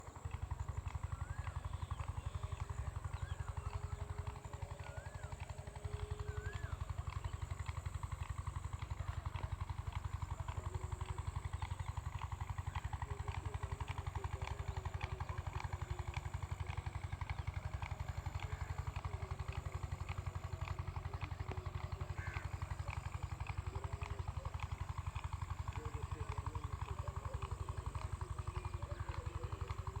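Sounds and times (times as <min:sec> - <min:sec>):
water pump motor pulsing: 0:00.0 - 0:30.0.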